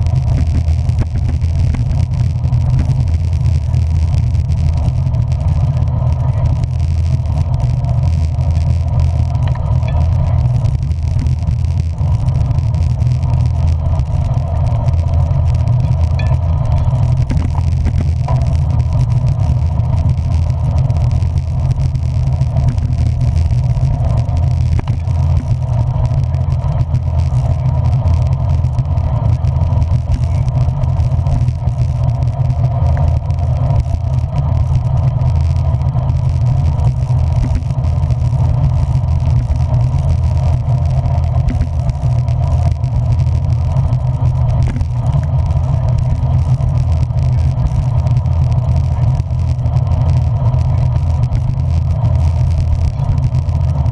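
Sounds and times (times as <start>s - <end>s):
rain: 0.0s - 53.9s
vehicle road and engine rumble: 0.0s - 53.9s.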